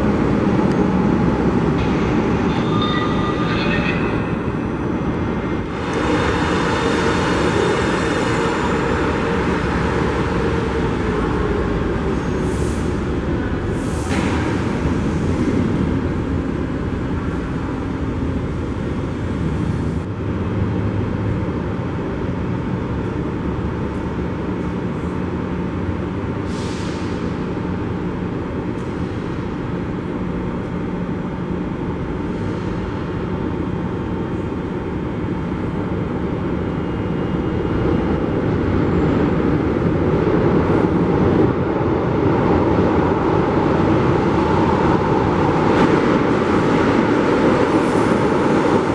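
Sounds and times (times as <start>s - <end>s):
train rumbling with low hum: 0.0s - 48.9s.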